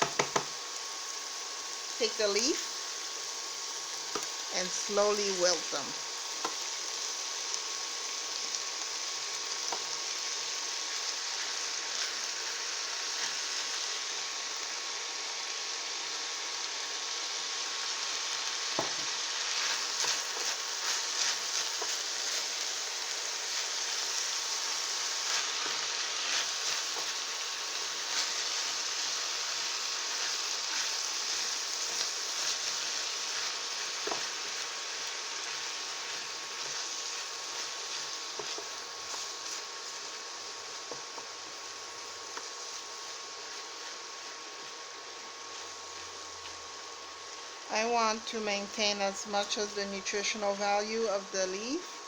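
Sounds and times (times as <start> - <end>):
greens sizzling in oil: 0.0 - 52.0.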